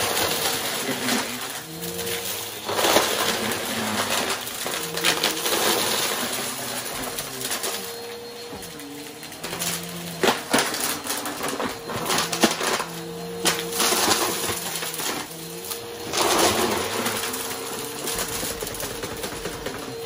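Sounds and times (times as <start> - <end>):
vacuum motor humming: 0.0 - 20.0.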